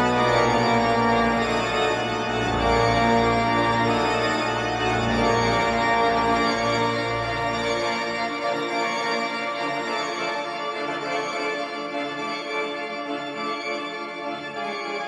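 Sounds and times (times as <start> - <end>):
pipe organ playing full chords: 0.0 - 15.0.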